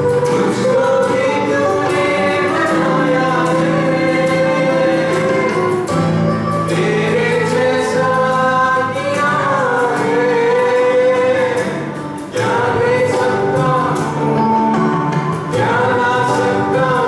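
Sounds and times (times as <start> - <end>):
man singing into microphone: 0.0 - 14.6, 15.4 - 17.0
choir singing: 0.0 - 17.0
strummed acoustic guitar: 0.0 - 17.0.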